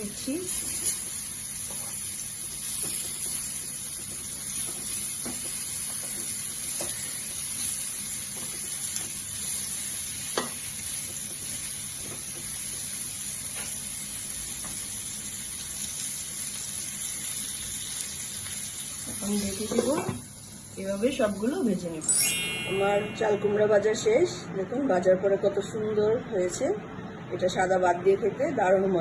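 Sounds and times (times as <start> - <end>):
gourd slices sizzling in oil: 0.0 - 24.0.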